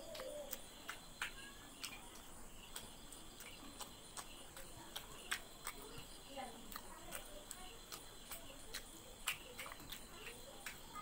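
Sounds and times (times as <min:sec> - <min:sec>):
person chewing with mouth clicks: 0:01.4 - 0:10.8.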